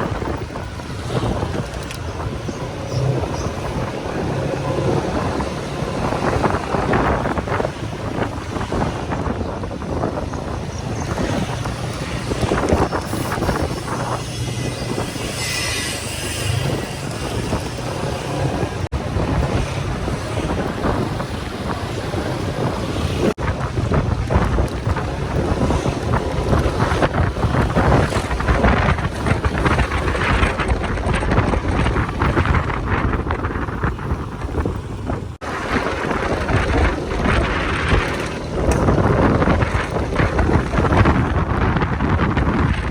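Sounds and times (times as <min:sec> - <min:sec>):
motorcycle engine running: 0:00.0 - 0:42.6
road noise: 0:00.0 - 0:42.9
wind buffeting microphone: 0:00.0 - 0:42.9.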